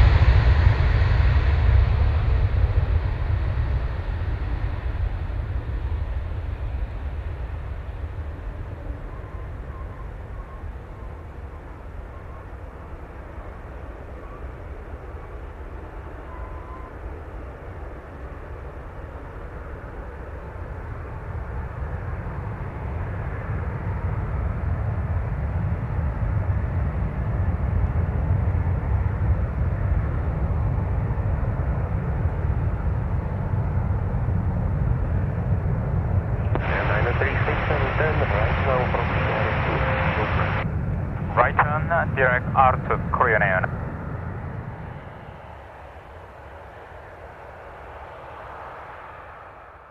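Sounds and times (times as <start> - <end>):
jet engines at takeoff: 0.0 - 49.9.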